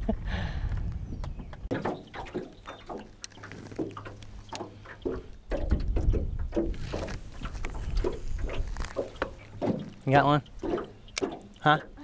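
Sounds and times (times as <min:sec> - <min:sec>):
water knocking against boat hull: 0:01.5 - 0:12.0.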